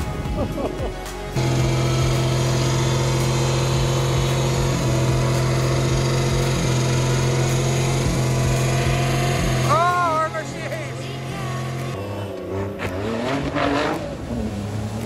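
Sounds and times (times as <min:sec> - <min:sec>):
truck engine revving high: 0:00.9 - 0:15.0.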